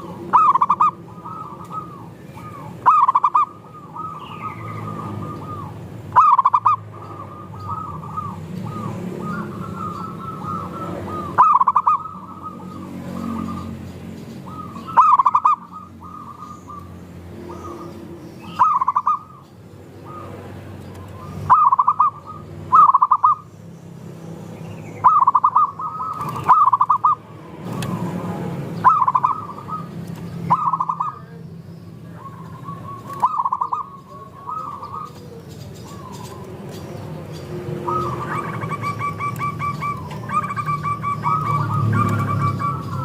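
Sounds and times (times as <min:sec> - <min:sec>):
doves cooing: 0:00.0 - 0:23.5, 0:25.0 - 0:31.4, 0:32.0 - 0:43.0.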